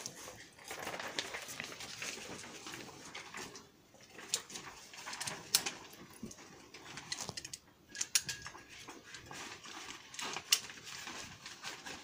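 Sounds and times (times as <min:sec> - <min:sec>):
handling and rustling noise: 0:00.0 - 0:12.0.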